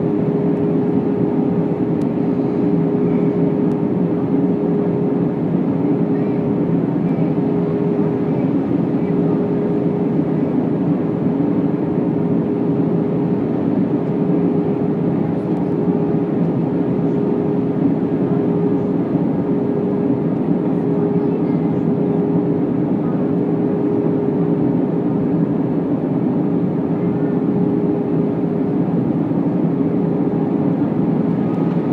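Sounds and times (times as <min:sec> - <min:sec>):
airplane cabin engine rumble: 0:00.0 - 0:31.9
constant hum: 0:00.0 - 0:31.9.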